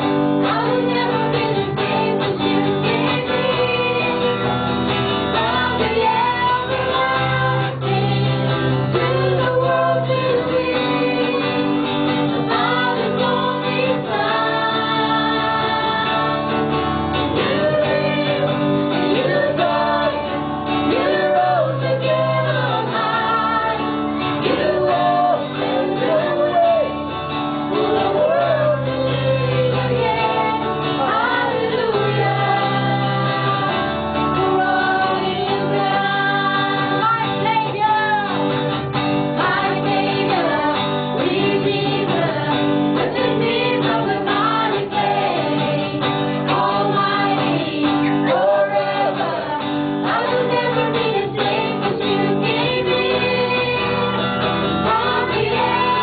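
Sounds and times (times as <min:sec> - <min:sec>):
electric guitar: 0:00.0 - 0:56.0
second singer: 0:00.0 - 0:56.0
woman singing into microphone: 0:00.4 - 0:04.6, 0:05.3 - 0:16.5, 0:17.3 - 0:26.8, 0:27.7 - 0:38.6, 0:39.4 - 0:56.0.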